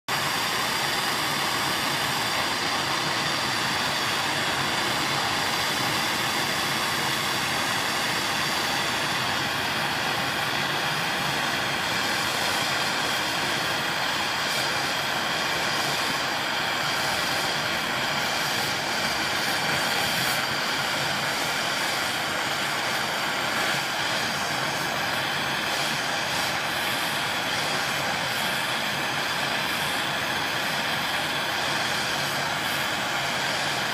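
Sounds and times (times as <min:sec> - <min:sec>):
gas torch hissing: 0:00.1 - 0:33.9.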